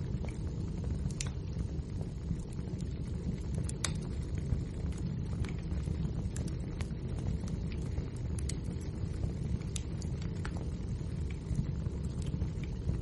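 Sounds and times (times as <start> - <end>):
fire crackling and popping: 0.0 - 13.0
fire rumbling: 0.0 - 13.0.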